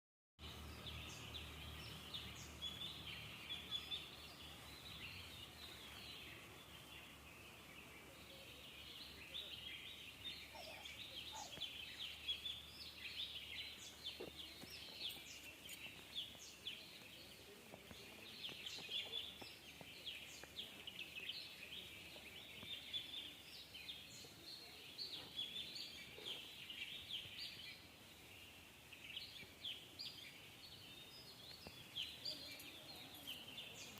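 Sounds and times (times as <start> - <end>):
small birds chirping: 0.4 - 33.9.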